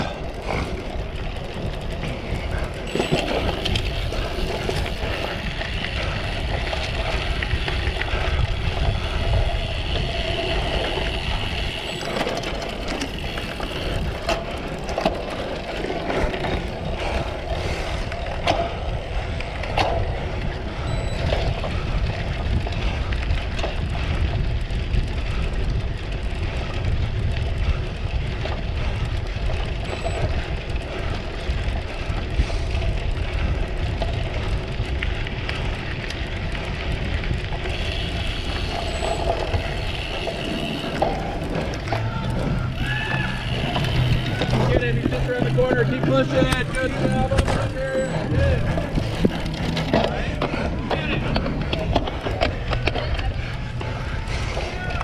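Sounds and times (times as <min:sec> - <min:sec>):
bike knocks and clicks: 0:00.0 - 0:55.0
bike rattling over rough ground: 0:00.0 - 0:55.0
wind buffeting: 0:00.0 - 0:55.0.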